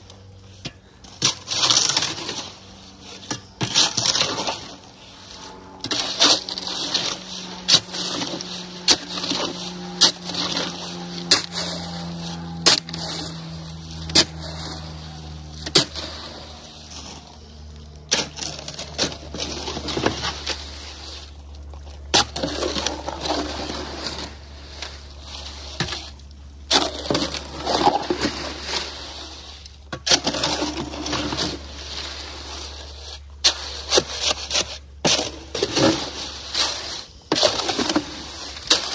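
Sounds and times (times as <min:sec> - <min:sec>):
shovel scraping wet concrete: 0:00.3 - 0:38.9.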